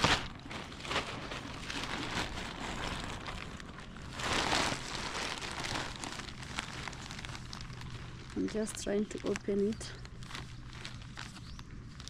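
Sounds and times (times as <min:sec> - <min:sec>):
plastic sack rustling: 0:00.0 - 0:12.0.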